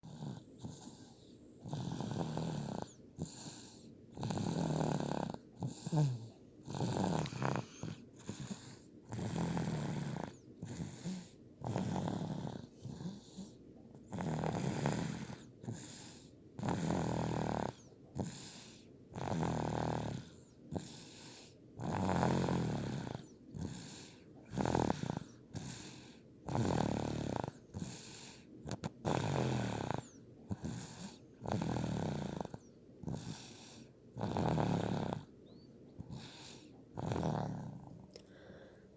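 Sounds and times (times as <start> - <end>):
girl snoring: 0.0 - 33.6, 34.2 - 35.3, 36.0 - 37.9
soft breaths: 0.0 - 38.9.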